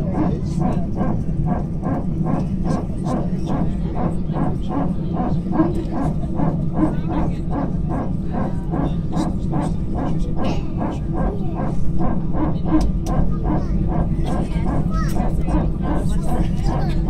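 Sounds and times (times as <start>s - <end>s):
aircraft engines humming: 0.0s - 17.0s.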